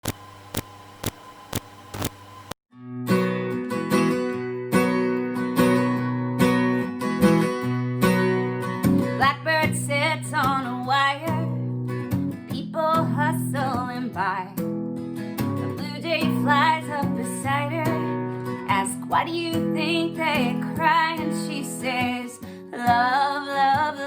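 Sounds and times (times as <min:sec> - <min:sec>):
strummed acoustic guitar: 0:02.7 - 0:24.0.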